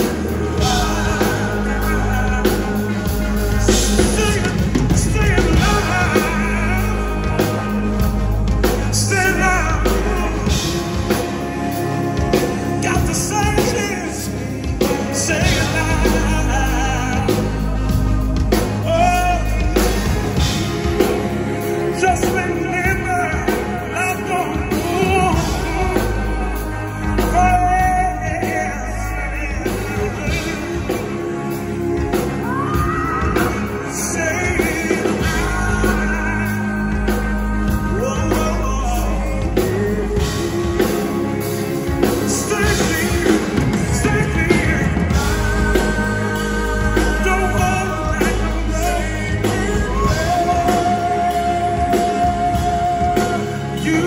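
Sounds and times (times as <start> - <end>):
men singing: 0.0 - 54.0
pop-rock band playing: 0.0 - 54.0.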